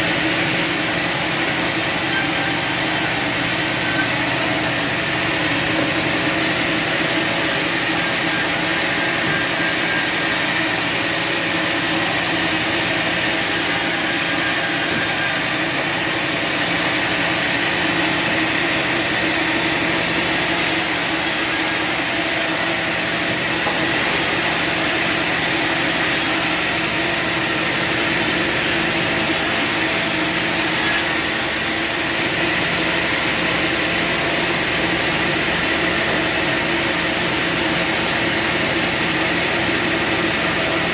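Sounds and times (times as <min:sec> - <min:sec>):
band saw blade cutting wood: 0:00.0 - 0:40.9.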